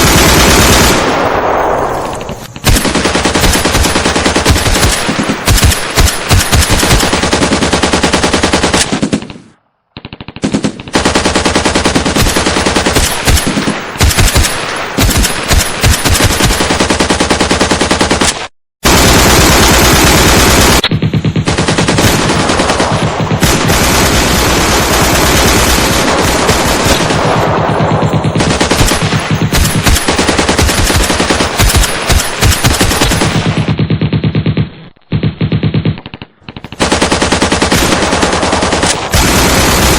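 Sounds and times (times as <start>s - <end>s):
automatic gunfire bursts: 0.0s - 9.4s, 10.0s - 39.9s.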